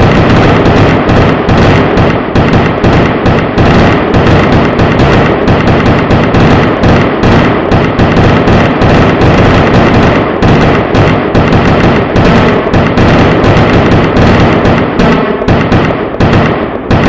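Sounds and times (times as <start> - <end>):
firecracker bangs: 0.0 - 17.0.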